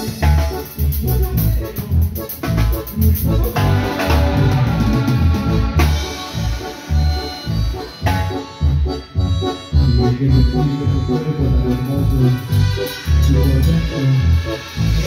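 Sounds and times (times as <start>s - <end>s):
bass: 0.0s - 15.0s
drum kit beat: 0.0s - 15.0s
keyboard: 0.0s - 15.0s.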